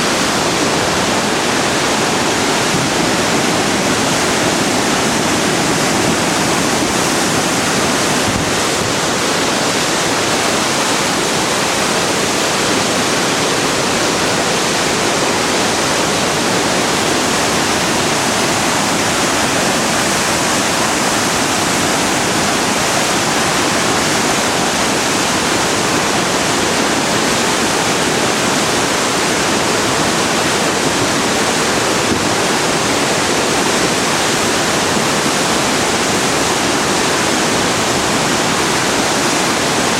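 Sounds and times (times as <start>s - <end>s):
rush of torrential river water: 0.0s - 39.9s.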